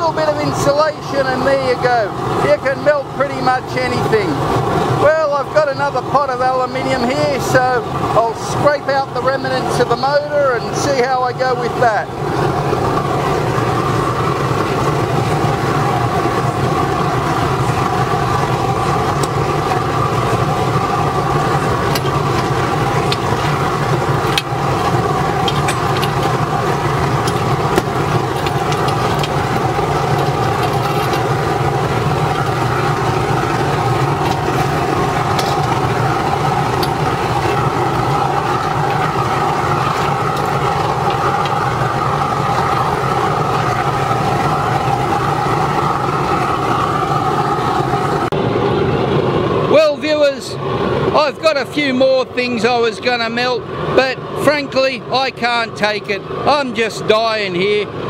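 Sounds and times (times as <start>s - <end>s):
burner flame rushing: 0.0s - 54.6s
blower hum: 0.0s - 58.0s.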